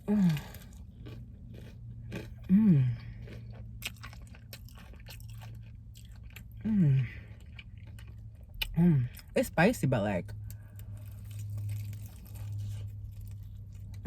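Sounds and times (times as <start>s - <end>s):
crunching bites and chewing: 0.0s - 8.8s, 10.5s - 14.0s.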